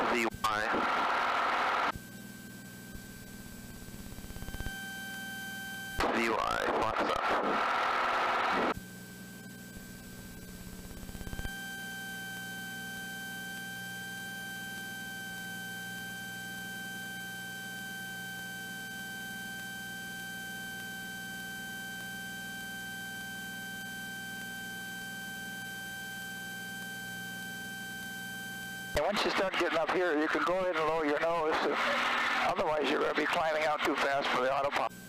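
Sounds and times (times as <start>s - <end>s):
high electrical whine: 0.0s - 35.0s.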